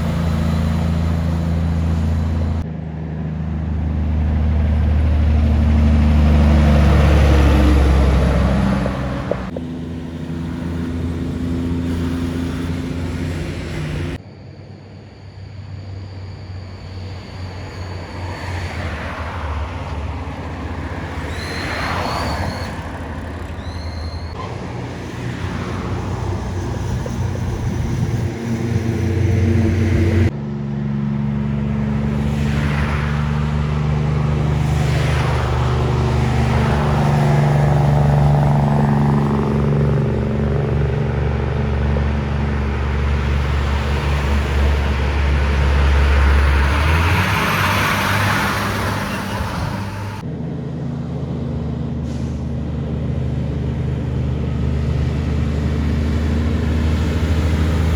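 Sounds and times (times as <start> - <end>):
heavy trucks passing: 0.0 - 14.2, 16.5 - 57.9.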